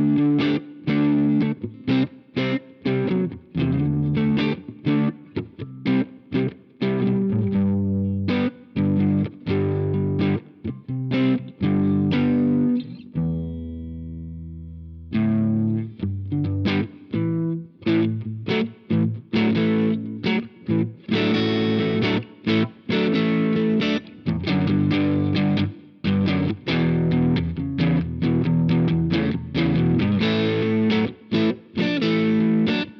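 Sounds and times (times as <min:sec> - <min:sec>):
overdriven electric guitar chords: 0:00.0 - 0:32.9.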